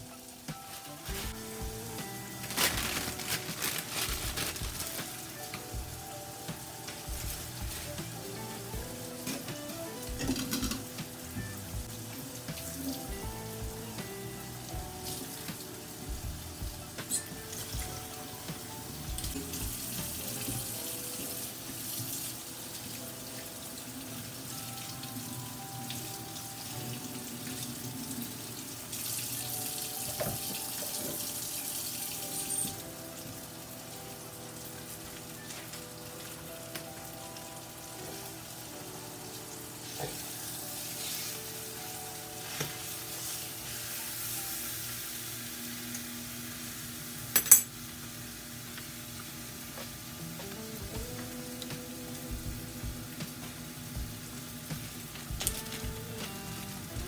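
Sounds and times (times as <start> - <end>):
meat sizzling in a skillet: 0.0 - 57.0.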